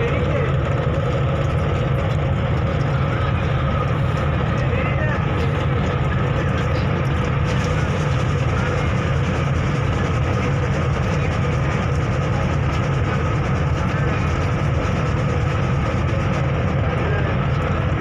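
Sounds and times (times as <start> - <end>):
ferry engine drone: 0.0 - 18.0.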